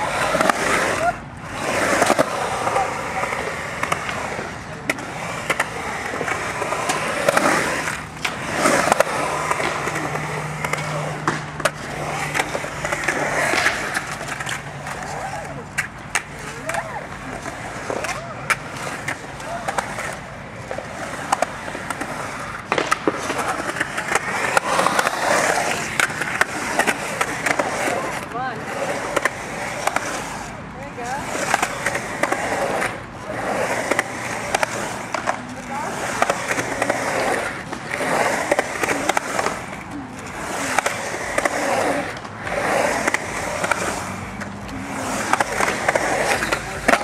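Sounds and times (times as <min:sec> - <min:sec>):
skateboard clicks and knocks: 0:00.0 - 0:47.0
skateboard wheels rolling on concrete: 0:00.0 - 0:47.0.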